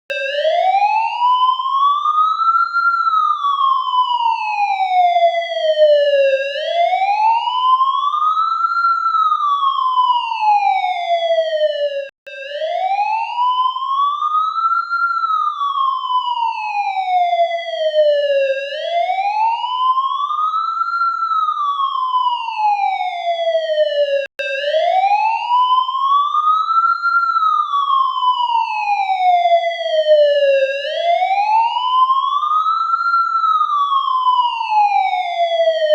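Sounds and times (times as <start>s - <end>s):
ambulance siren wailing: 0.1s - 35.9s.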